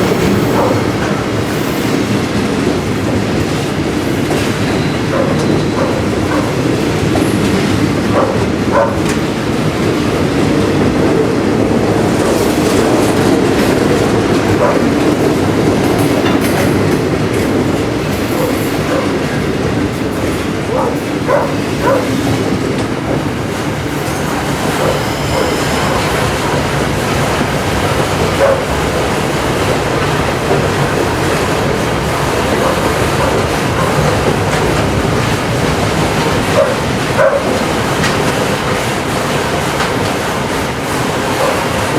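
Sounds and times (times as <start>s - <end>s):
freight train rumbling on rails: 0.0s - 41.9s
wheels clicking over rail joints: 0.0s - 41.9s.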